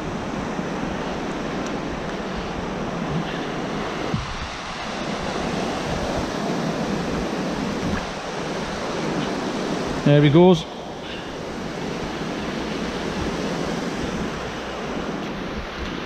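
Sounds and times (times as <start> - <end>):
sea surf washing onto beach: 0.0 - 16.0
wind blowing across microphone: 0.0 - 16.0.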